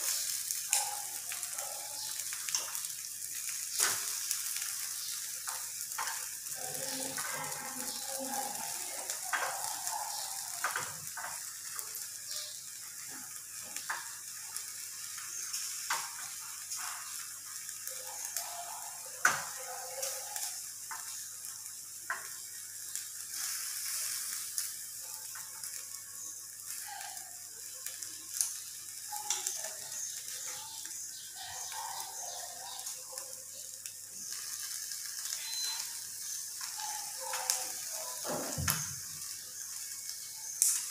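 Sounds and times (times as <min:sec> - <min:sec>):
chicken sizzling on a grill: 0:00.0 - 0:40.9.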